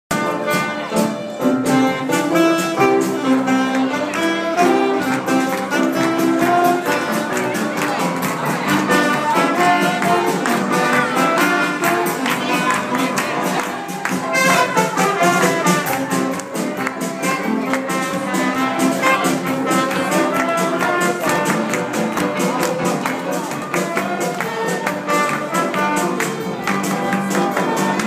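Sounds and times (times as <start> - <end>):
small band playing live: 0.1 - 28.0.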